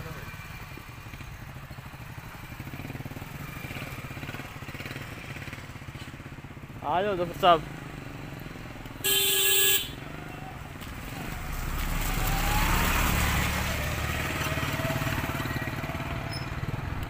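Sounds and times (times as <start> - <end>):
motorcycle engine accelerating: 0.0 - 9.1, 9.9 - 17.0
road and wind noise: 0.0 - 17.0.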